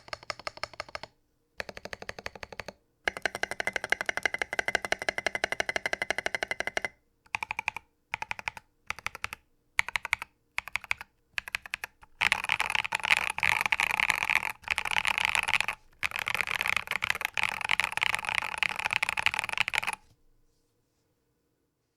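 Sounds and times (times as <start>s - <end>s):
mechanical keyboard typing: 0.0s - 20.1s.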